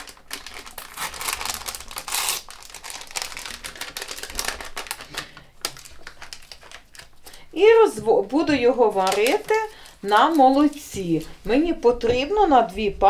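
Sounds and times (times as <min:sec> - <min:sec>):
packets crinkling: 0:00.0 - 0:11.5.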